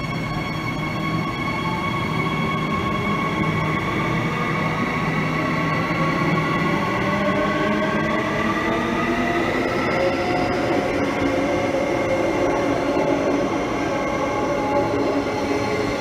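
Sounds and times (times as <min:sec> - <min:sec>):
train wheel and running noise: 0:00.0 - 0:16.0.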